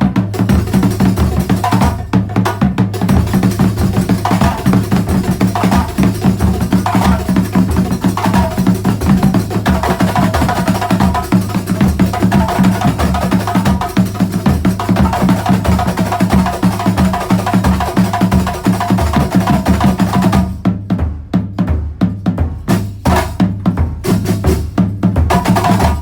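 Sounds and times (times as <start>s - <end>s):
frame drums playing: 0.0s - 26.0s.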